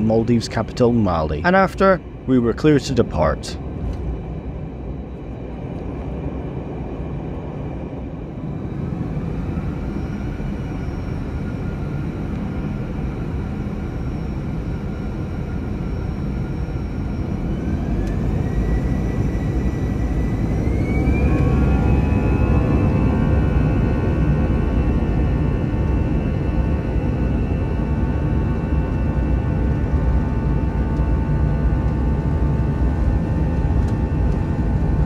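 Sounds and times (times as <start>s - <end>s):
jet engine rumble: 0.0s - 35.0s
jet engine whine: 0.0s - 35.0s.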